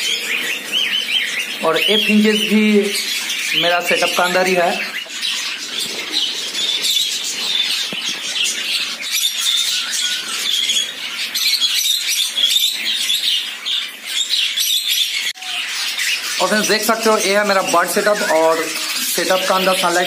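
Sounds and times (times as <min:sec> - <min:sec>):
caged birds twittering: 0:00.0 - 0:20.0.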